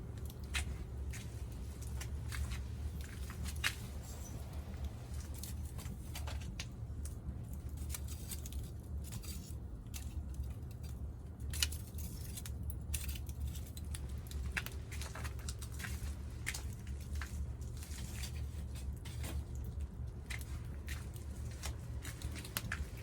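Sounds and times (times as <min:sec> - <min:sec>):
wood fire crackling and popping: 0:00.0 - 0:08.6, 0:11.5 - 0:23.0.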